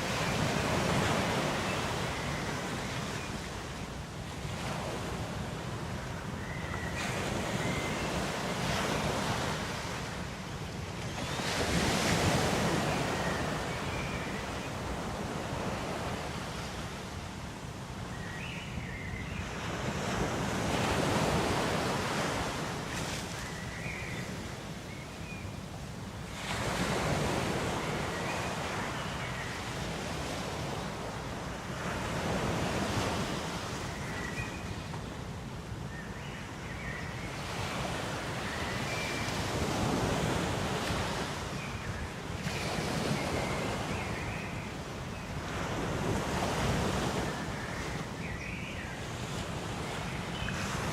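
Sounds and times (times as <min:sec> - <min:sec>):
ocean waves washing on shore: 0:00.0 - 0:50.9.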